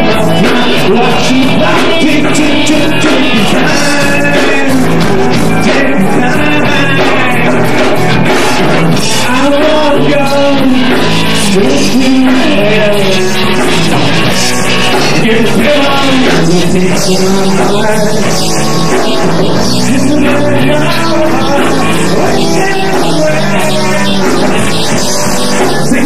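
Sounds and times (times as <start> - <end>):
man singing lead: 0.0 - 26.0
rock band playing live: 0.0 - 26.0.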